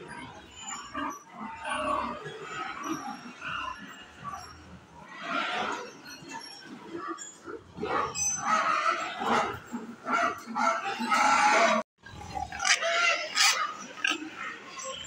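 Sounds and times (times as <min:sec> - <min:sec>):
pigs grunting and calling: 0:00.0 - 0:15.0.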